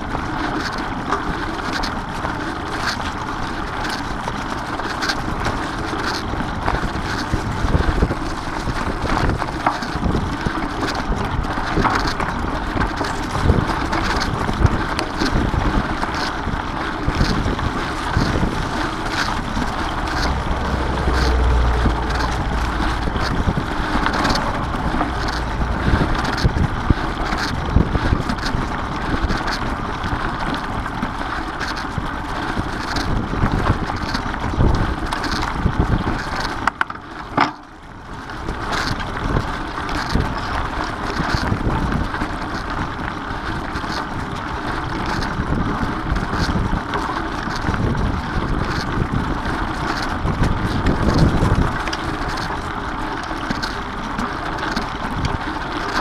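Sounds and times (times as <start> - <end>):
bike rattle: 0.0 - 56.0
bike tyres on grass and leaves: 0.0 - 56.0
wind on microphone: 0.0 - 56.0.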